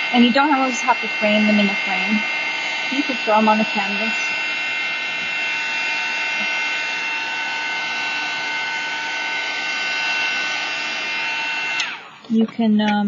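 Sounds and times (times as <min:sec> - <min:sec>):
heat tool blowing and whining: 0:00.0 - 0:12.4.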